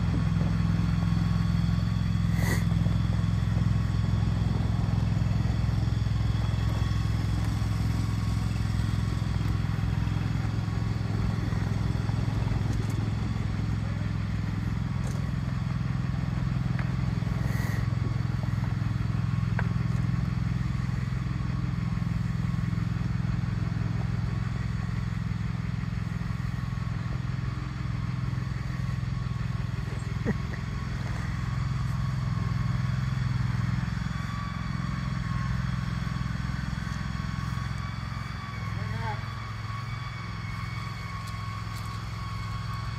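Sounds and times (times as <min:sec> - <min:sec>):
machine engine running: 0:00.0 - 0:42.9.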